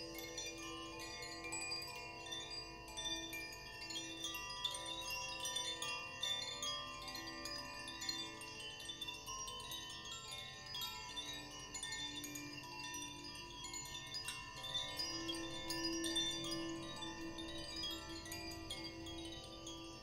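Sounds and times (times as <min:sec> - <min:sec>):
hand chimes tinkling: 0:00.0 - 0:20.0.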